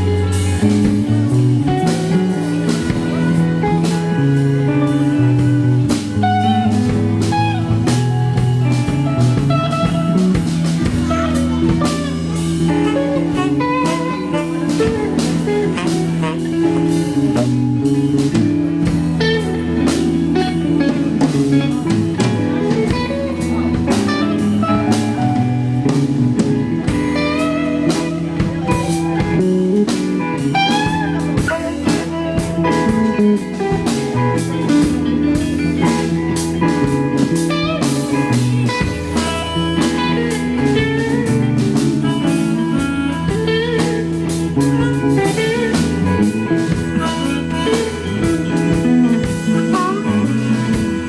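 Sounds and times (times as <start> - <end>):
bass guitar: 0.0 - 51.0
drum kit: 0.0 - 51.0
electric lead guitar bending notes: 0.0 - 51.0
rhythm guitar: 0.0 - 51.0.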